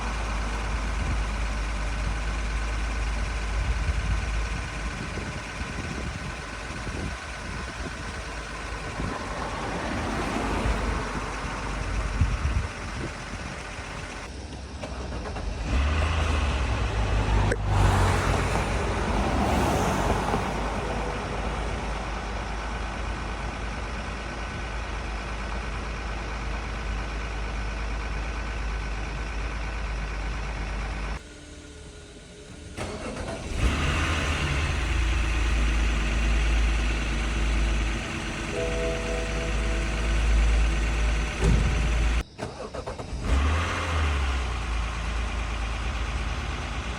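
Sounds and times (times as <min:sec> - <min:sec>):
car engine running: 0:00.0 - 0:15.6, 0:20.2 - 0:42.4
strange engine noise: 0:00.0 - 0:46.9.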